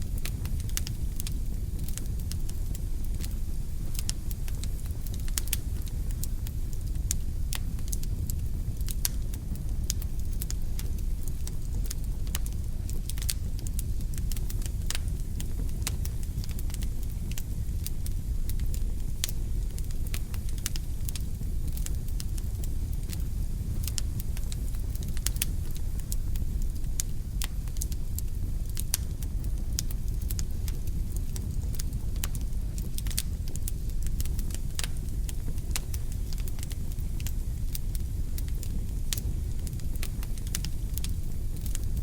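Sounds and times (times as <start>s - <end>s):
fire crackling and snapping: 0.0s - 42.0s
low rumble of fire: 0.0s - 42.0s.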